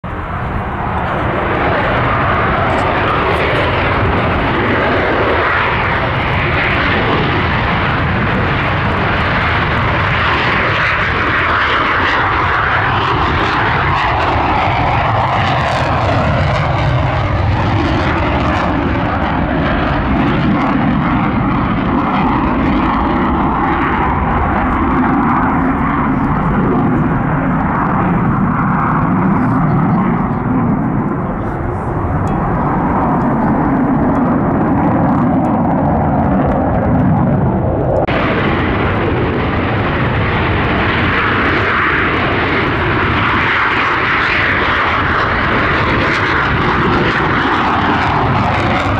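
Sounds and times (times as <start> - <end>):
jet aircraft taking off: 0.0 - 48.9.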